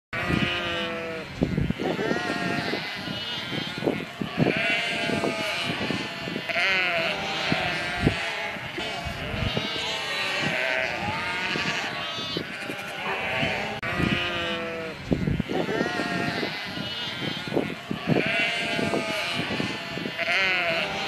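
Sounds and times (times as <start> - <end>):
flock of sheep bleating: 0.2 - 21.0.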